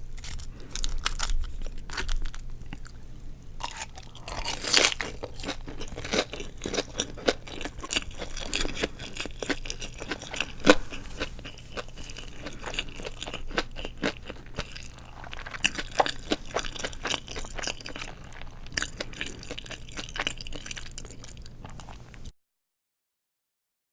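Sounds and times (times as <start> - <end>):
crunching and chewing food: 0.0 - 22.3.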